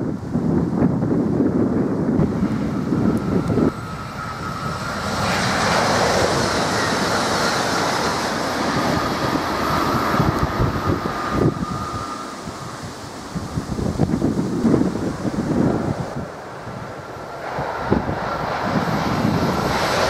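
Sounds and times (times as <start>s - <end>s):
high-speed train passing: 0.0s - 20.0s
wind gusts on microphone: 0.0s - 20.0s.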